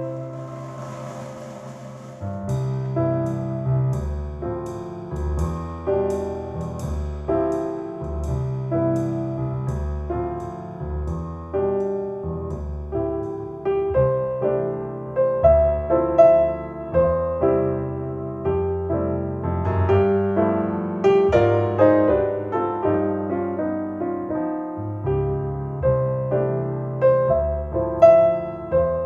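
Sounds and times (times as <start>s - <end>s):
solo piano over loudspeakers: 0.0s - 29.0s.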